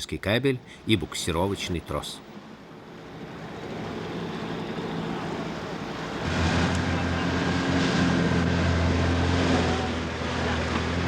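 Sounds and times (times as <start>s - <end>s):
boat engine humming: 0.0s - 11.0s
sea noise: 0.0s - 11.0s
wind: 0.0s - 11.0s.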